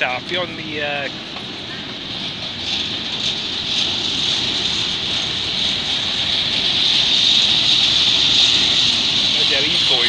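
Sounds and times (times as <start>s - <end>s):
freight train rolling past: 0.0s - 10.0s.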